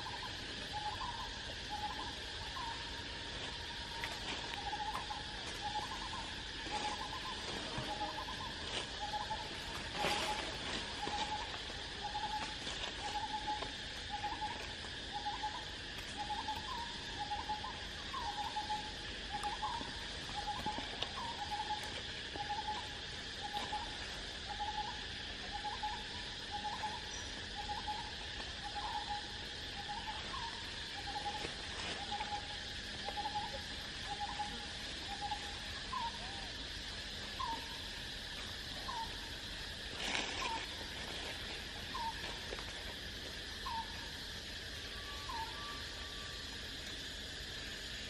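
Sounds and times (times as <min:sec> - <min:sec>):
insects chorus: 0:00.0 - 0:48.0.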